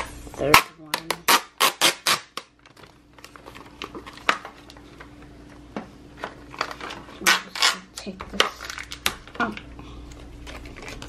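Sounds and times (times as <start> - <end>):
plastic packaging crinkling: 1.2 - 5.3, 6.1 - 11.0.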